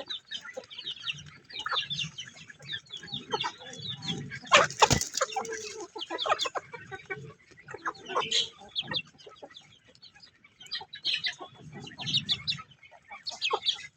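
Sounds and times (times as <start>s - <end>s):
chickens clucking: 0.0s - 13.9s.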